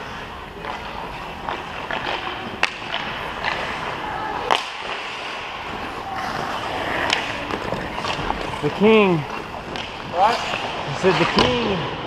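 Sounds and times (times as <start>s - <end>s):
skate blades scraping ice: 0.0s - 11.4s
hockey stick and puck clacks: 0.0s - 11.8s.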